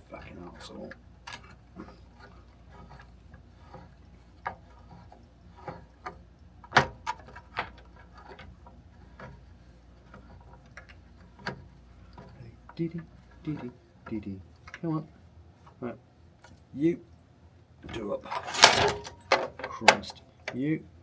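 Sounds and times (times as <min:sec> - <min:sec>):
light metal clicks and knocks: 0:00.0 - 0:14.9, 0:17.8 - 0:20.7.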